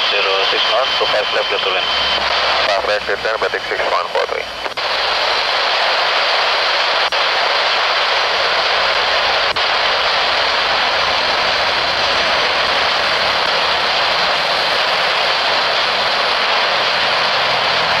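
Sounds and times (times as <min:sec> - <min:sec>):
radio receiver hiss: 0:00.0 - 0:18.0.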